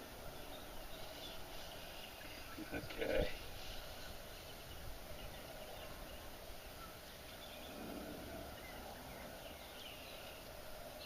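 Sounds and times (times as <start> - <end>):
faint outdoor background: 0.0 - 11.0
bird chirps: 0.2 - 11.0.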